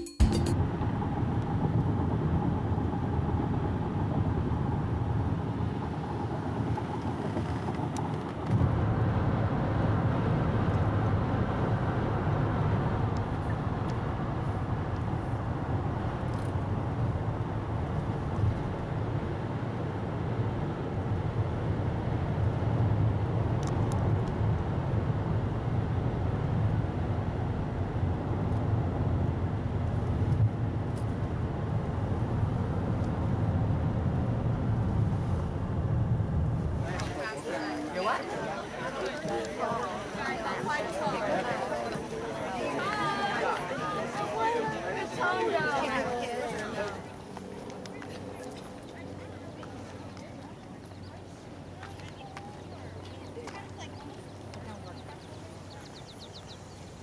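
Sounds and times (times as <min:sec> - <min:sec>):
tyre and engine drone: 0:00.0 - 0:57.0.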